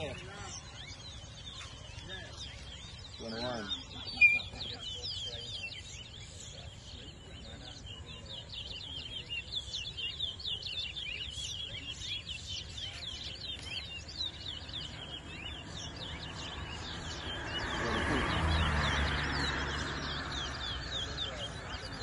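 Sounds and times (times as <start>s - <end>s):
finch singing high chirps: 0.0s - 22.0s.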